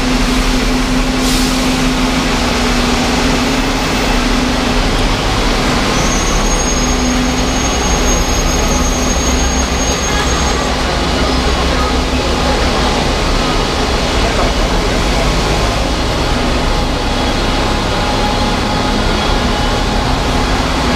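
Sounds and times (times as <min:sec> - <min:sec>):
bus engine idling: 0:00.0 - 0:20.9
street traffic noise: 0:00.0 - 0:20.9.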